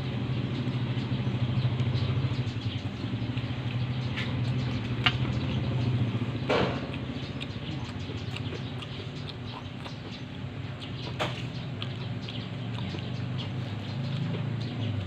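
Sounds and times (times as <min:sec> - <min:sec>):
chewing crispy fried chicken: 0:00.0 - 0:15.0
low mechanical hum: 0:00.0 - 0:15.0.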